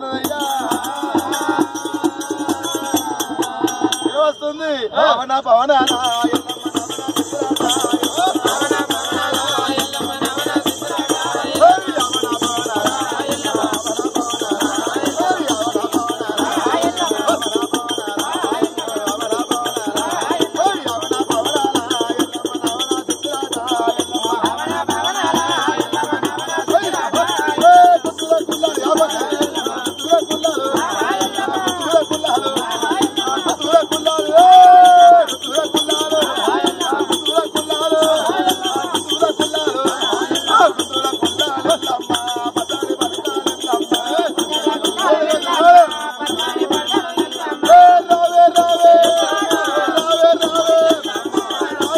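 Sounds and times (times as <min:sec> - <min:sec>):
jingling rattling percussion: 0:00.0 - 0:04.8, 0:05.6 - 0:51.9
men singing folk song: 0:00.0 - 0:51.9.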